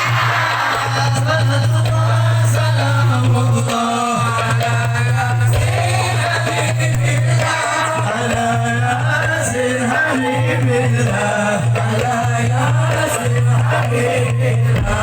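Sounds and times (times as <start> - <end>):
voices singing devotional song: 0.0 - 15.0.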